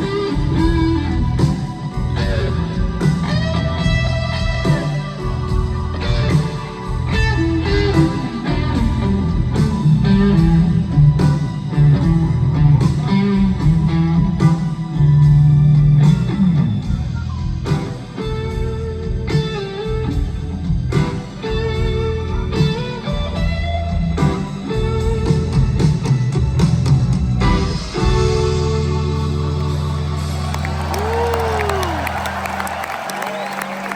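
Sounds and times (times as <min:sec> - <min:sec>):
electric guitar lead: 0:00.0 - 0:33.5
rock band playing blues: 0:00.0 - 0:33.9.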